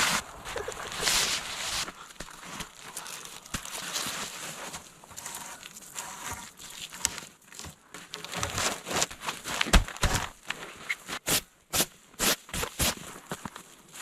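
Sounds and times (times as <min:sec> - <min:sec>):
rustling and crinkling: 0:00.0 - 0:11.4, 0:12.2 - 0:14.0.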